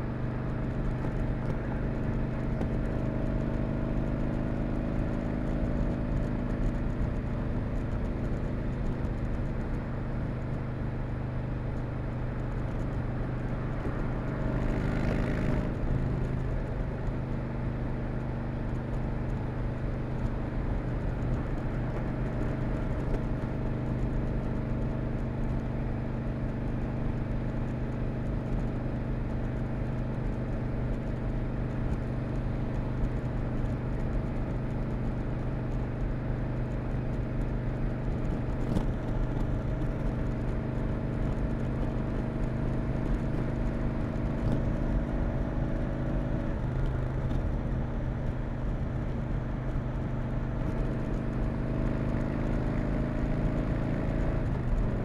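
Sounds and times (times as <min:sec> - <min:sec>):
motorcycle engine cruising: 0:00.0 - 0:55.0
road noise: 0:00.0 - 0:55.0.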